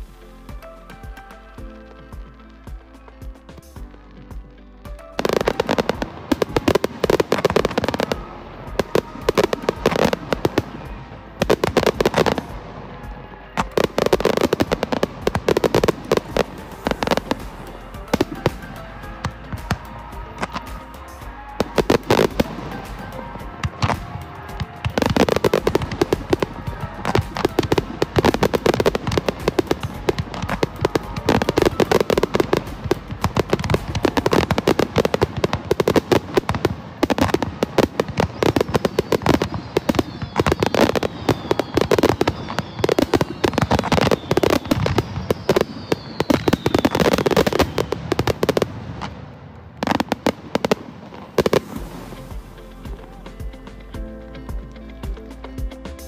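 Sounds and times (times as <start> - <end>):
background music: 0.0 - 56.0
fireworks bangs and crackling: 0.0 - 56.0.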